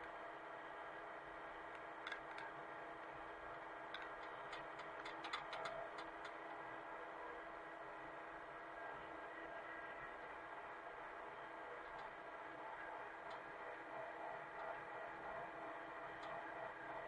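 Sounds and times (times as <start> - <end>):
faint excavator engine running: 0.0 - 17.0.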